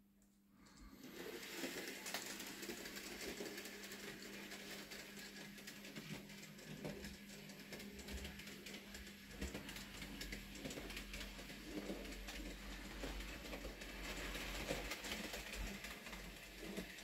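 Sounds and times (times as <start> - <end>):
model locomotive motor whirring: 0.9 - 17.0.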